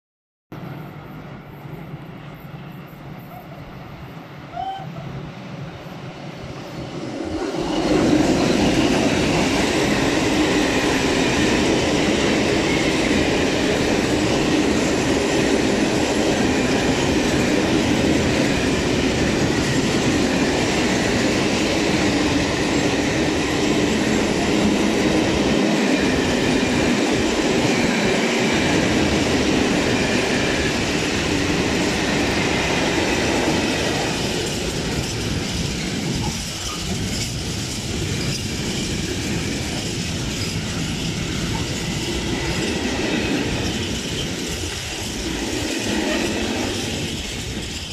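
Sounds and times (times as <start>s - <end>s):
train wheels rumbling on rails: 0.6s - 47.9s.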